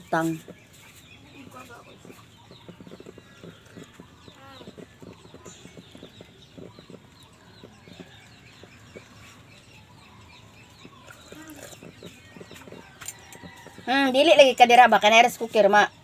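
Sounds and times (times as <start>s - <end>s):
faint chicken clucking: 0.2s - 14.4s.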